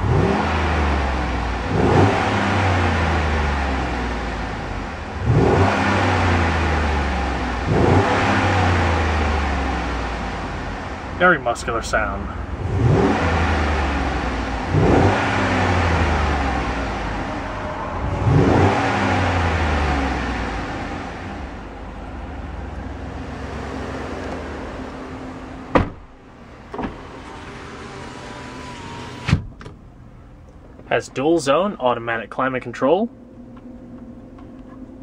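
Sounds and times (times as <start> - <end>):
engine revving: 0.0 - 29.4.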